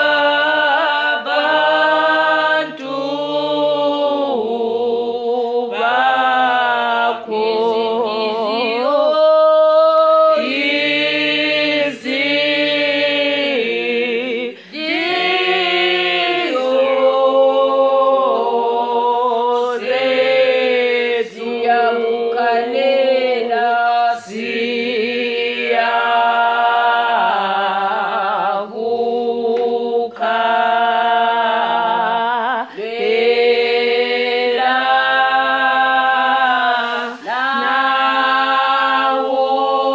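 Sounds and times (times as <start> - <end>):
choir singing a hymn a cappella: 0.0 - 39.9.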